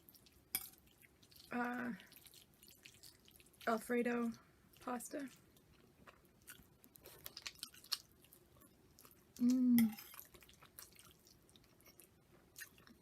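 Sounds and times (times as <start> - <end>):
wet chewing with smacks: 0.0 - 13.0.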